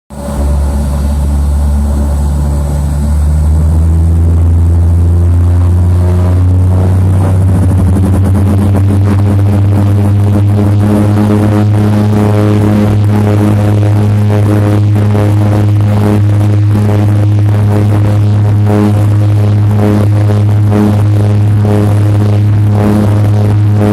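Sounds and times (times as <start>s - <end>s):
seaplane engine drone from cabin: 0.1s - 23.9s.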